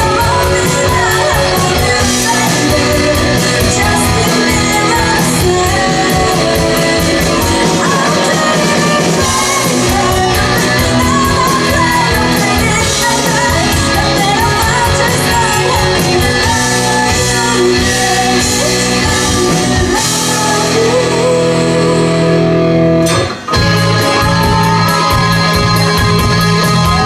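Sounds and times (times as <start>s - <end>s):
person singing: 0.0s - 22.7s, 23.4s - 27.0s
bass guitar: 0.0s - 27.0s
drums: 0.0s - 27.0s
electric guitars: 0.0s - 27.0s.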